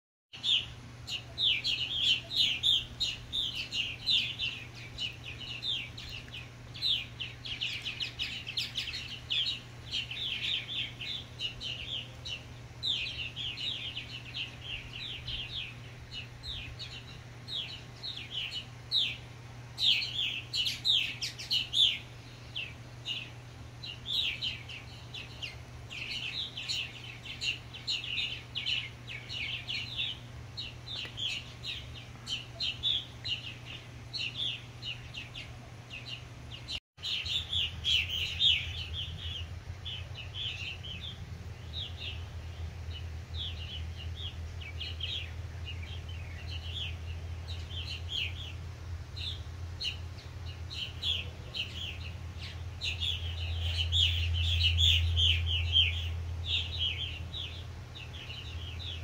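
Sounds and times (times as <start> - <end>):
birds chirping and chattering: 0.3 - 59.0
faint low hum: 0.4 - 59.0.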